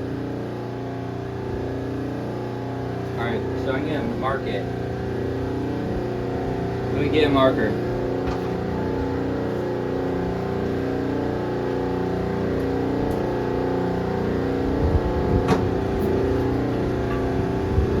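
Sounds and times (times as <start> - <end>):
machine droning hum: 0.0 - 18.0.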